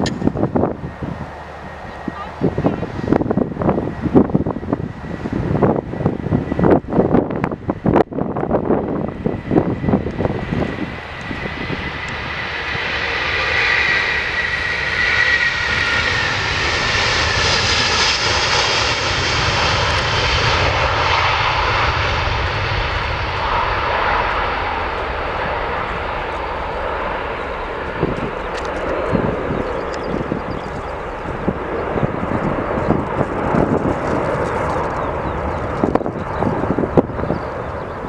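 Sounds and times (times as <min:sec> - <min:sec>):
airliner engines roaring: 0:00.0 - 0:38.0
jet engine whine: 0:00.0 - 0:38.0
wind buffeting microphone: 0:00.0 - 0:38.0.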